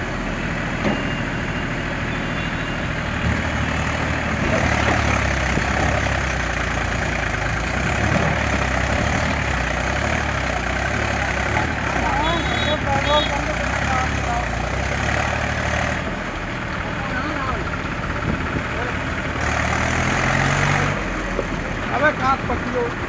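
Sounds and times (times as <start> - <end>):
tractor engine humming: 0.0 - 23.0.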